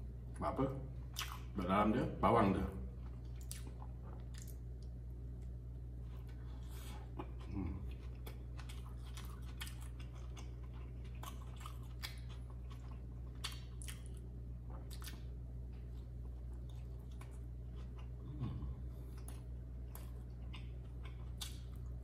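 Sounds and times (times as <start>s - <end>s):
steady low hum: 0.0s - 22.0s
person chewing: 1.1s - 1.6s, 3.0s - 22.0s.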